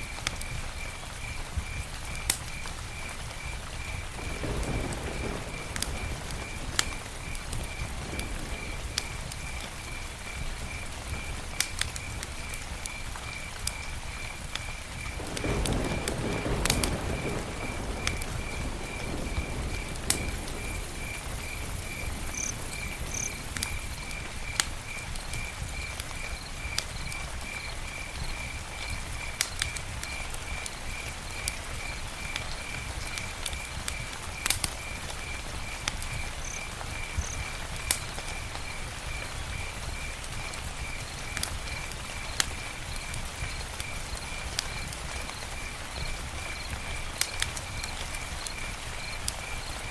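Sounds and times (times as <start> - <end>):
campfire crackling and popping: 0.0 - 49.9
cricket chirping: 0.4 - 49.9.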